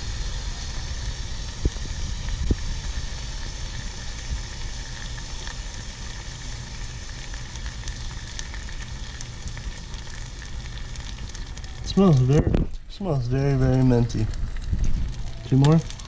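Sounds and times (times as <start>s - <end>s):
bubble gum sizzling in boiling water: 0.0s - 16.0s.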